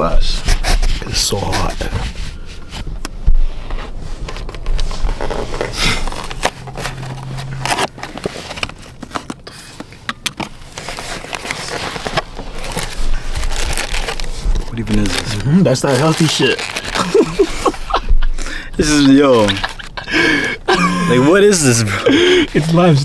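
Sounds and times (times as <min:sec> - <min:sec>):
food packaging crackling and scraping: 0:00.4 - 0:23.0.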